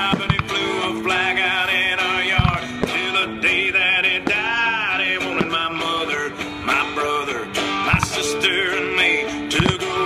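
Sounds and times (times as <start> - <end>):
country song with male singer: 0.0 - 10.0
fireworks bursting: 0.0 - 10.0
guitar playing: 0.0 - 10.0.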